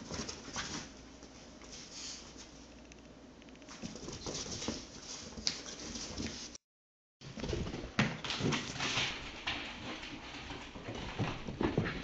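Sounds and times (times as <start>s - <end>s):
dogs scuffling in play: 0.0s - 2.6s, 3.7s - 6.6s, 7.3s - 12.0s.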